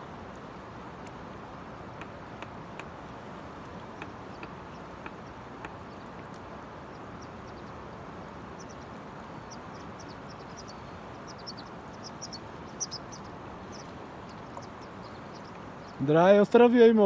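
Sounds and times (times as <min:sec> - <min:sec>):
river water rushing: 0:00.0 - 0:16.8
small birds chirping: 0:00.0 - 0:17.0.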